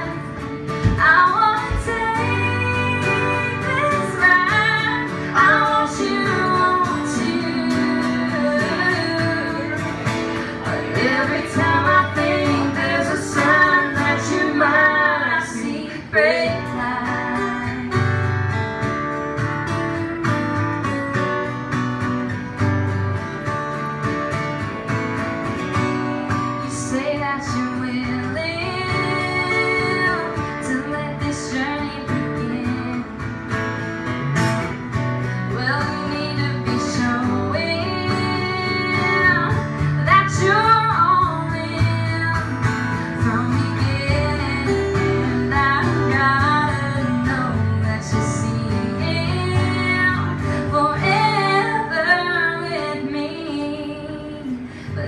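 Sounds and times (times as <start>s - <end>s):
acoustic guitars strummed: 0.0s - 55.0s
woman singing: 0.8s - 18.3s, 19.6s - 21.0s, 26.3s - 33.3s, 35.4s - 55.0s.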